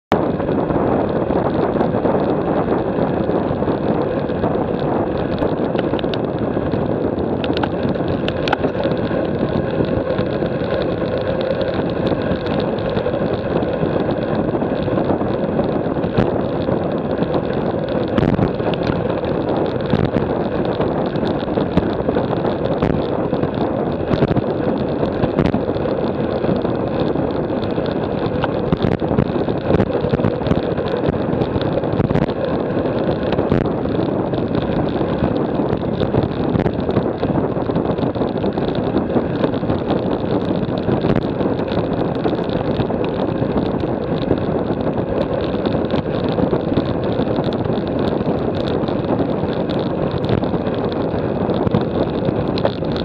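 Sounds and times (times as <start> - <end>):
bicycle tyre and road noise: 0.0 - 53.0
wind buffeting microphone: 0.1 - 53.0
small clicks and knocks: 5.2 - 6.8, 7.4 - 53.0.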